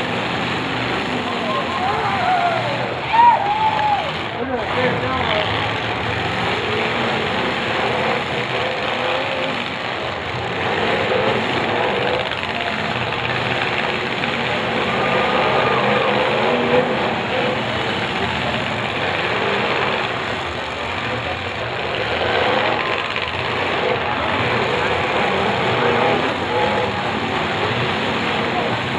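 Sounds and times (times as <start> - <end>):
car engines revving: 0.0 - 28.9
cars ramming each other: 0.0 - 28.9
crowd voices: 0.0 - 28.9.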